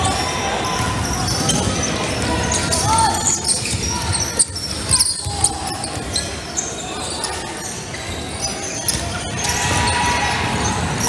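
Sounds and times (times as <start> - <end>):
people talking: 0.0 - 11.0.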